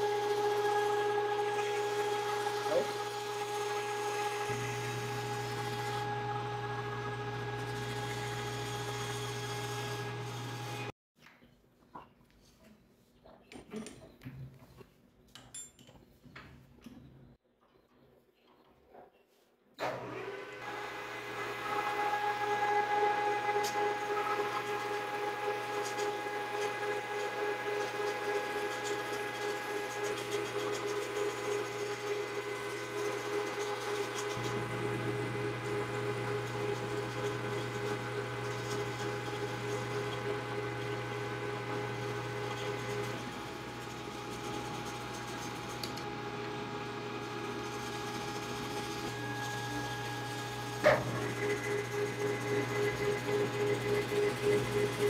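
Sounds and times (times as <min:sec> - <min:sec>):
metal lathe running: 0:00.0 - 0:10.9, 0:20.1 - 0:55.0.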